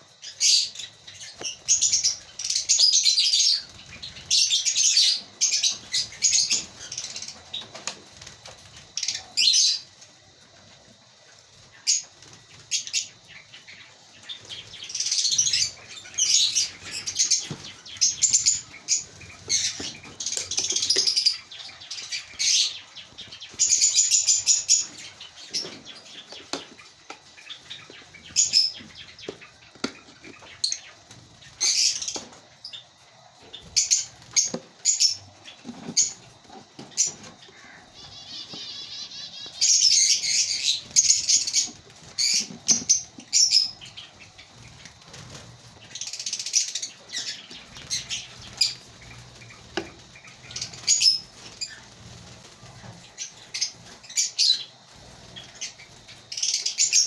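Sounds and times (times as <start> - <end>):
lovebirds chirping and chattering: 0.0 - 57.0.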